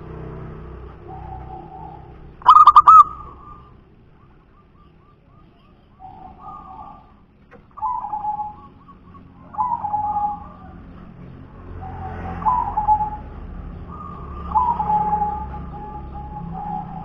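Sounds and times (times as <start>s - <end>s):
dove cooing: 0.9s - 17.0s.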